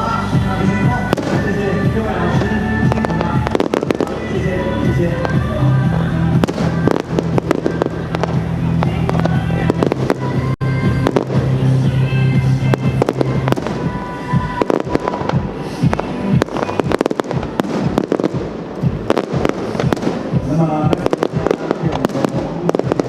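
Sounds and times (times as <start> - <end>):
fireworks bangs and crackles: 0.0 - 23.0
loud music: 0.0 - 23.0.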